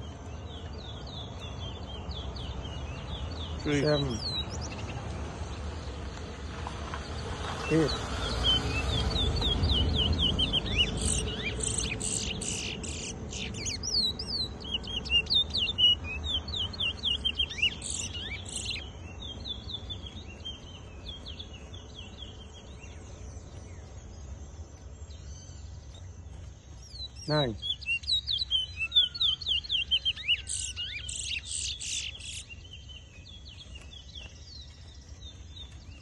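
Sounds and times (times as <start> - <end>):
finch singing whistled notes: 0.0 - 5.0, 7.6 - 24.4, 25.0 - 36.0.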